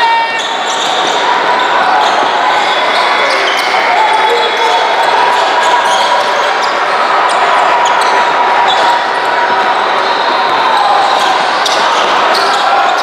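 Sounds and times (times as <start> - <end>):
crowd noise in hall: 0.0 - 13.0.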